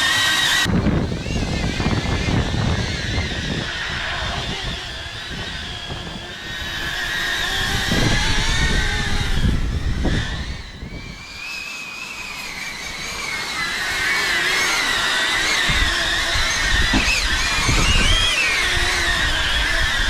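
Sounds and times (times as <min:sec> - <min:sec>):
drone propellers whining: 0:00.0 - 0:20.0
wind rumbling on microphone: 0:00.5 - 0:11.5, 0:12.2 - 0:20.0.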